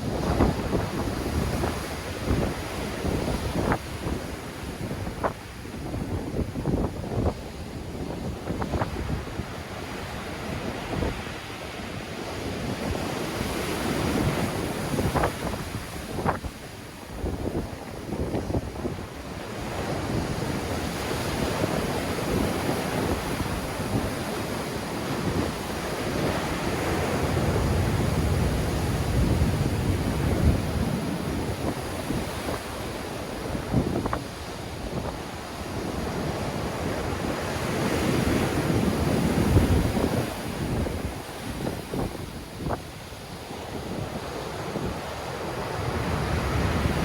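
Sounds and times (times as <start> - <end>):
sea waves breaking on shore: 0.0 - 47.0
wind buffeting microphone: 0.0 - 47.0.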